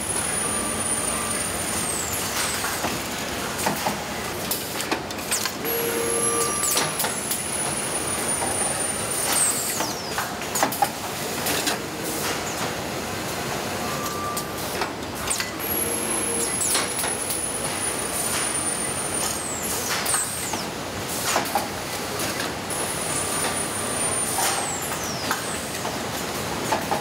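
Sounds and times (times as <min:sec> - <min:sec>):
conveyor machinery hum: 0:00.0 - 0:27.0.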